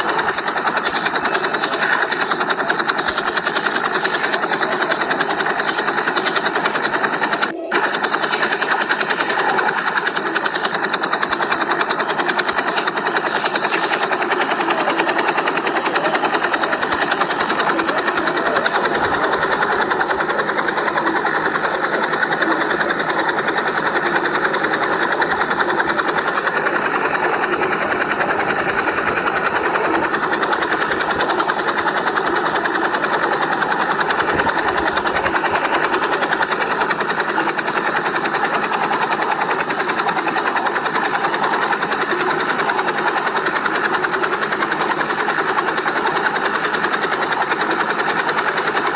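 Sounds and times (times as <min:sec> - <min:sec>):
small motor buzzing: 0:00.0 - 0:48.9.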